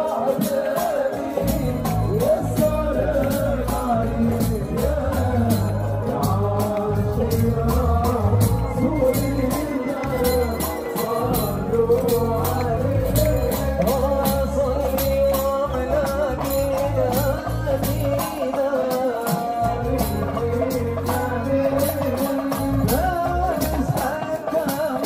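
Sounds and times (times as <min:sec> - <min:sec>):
frame drums beating: 0:00.1 - 0:25.0.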